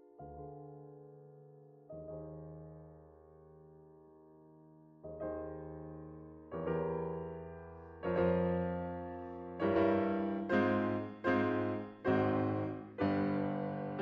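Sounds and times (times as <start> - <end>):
piano chords ringing: 0.0 - 14.0.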